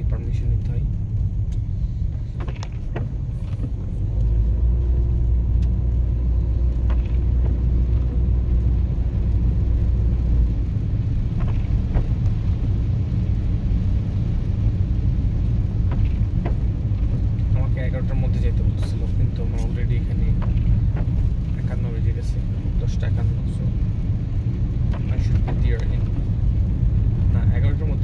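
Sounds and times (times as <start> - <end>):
car engine rumble: 0.0 - 28.0
road noise: 0.0 - 28.0.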